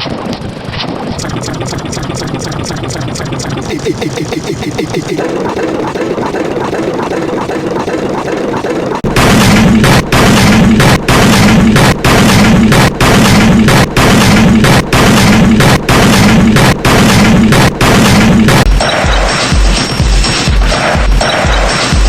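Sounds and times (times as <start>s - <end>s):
loud distorted noise blasts: 0.0s - 22.0s
low pulsing hum: 0.0s - 22.0s.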